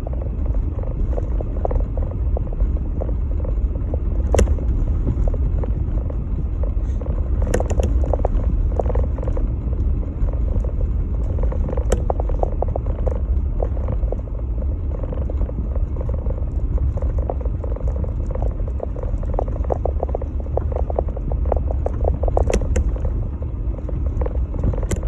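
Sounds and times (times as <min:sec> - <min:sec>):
small clicks and rattles: 0:00.0 - 0:25.0.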